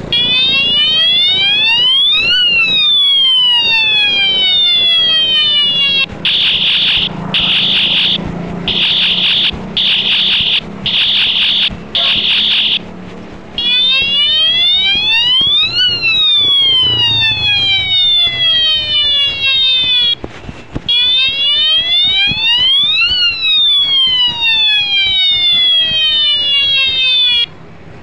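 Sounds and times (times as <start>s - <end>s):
bicycle siren horn wailing: 0.0s - 12.9s, 13.6s - 20.2s, 20.9s - 27.5s.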